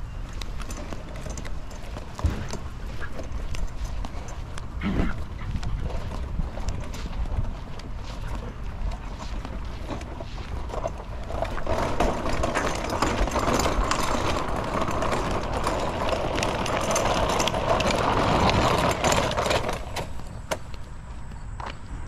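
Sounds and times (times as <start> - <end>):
wagon wheels crunching on gravel: 0.0 - 22.0.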